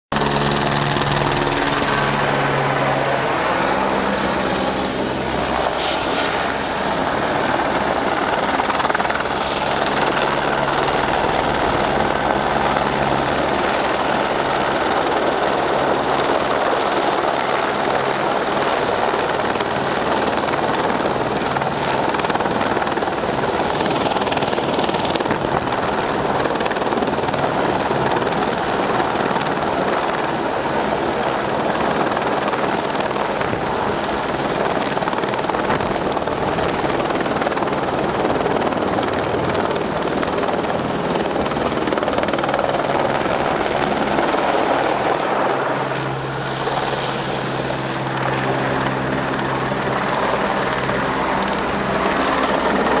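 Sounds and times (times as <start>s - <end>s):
helicopter rotor and engine: 0.1s - 53.0s.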